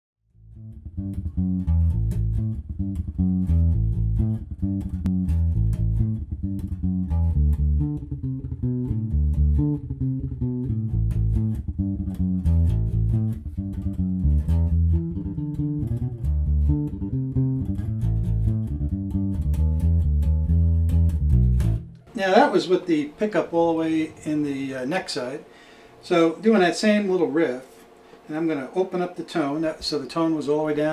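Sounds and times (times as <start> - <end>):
electric bass riff: 0.3 - 25.3.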